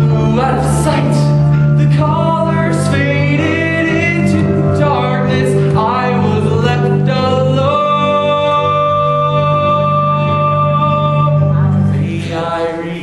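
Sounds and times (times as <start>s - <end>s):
instrumental accompaniment: 0.0s - 13.0s
man singing: 0.0s - 13.0s.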